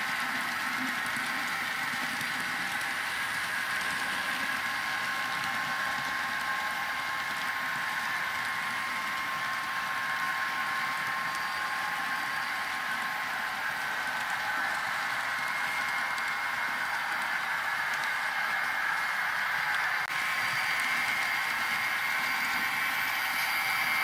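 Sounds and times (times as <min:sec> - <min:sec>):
faint steady whine: 0:00.0 - 0:24.0
model train running past: 0:00.0 - 0:24.0.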